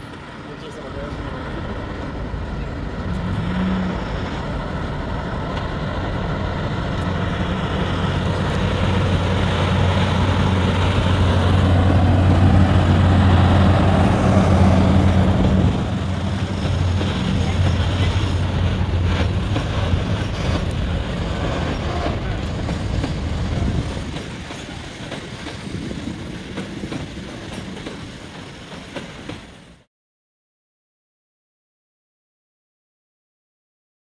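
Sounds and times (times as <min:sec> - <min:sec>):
diesel locomotive engine hum: 0:00.0 - 0:29.9
freight train rumble: 0:00.0 - 0:29.9.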